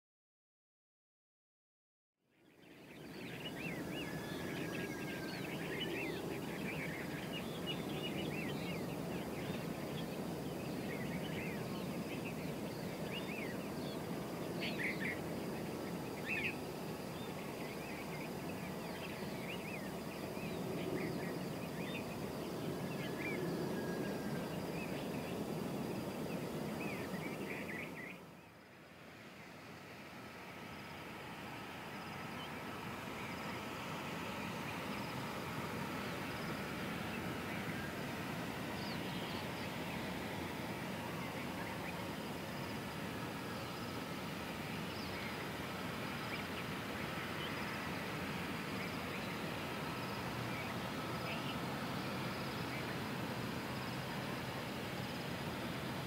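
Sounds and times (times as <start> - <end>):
low background noise: 2.3 - 56.0
small birds chirping: 2.4 - 56.0.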